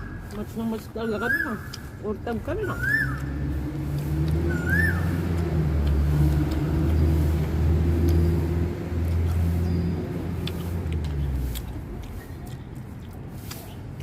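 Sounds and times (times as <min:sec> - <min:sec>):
vehicle engine running: 0:02.3 - 0:14.0.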